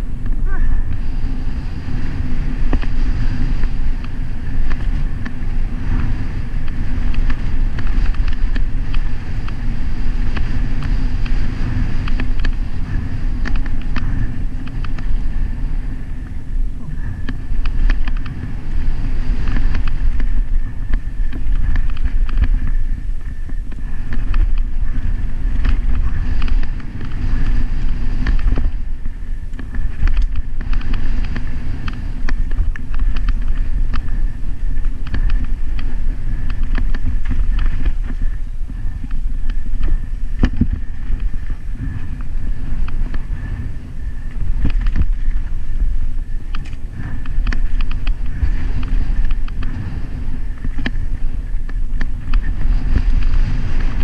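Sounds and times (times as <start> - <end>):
bike rattling over stones: 0.0 - 54.0
wind buffeting microphone: 0.0 - 54.0.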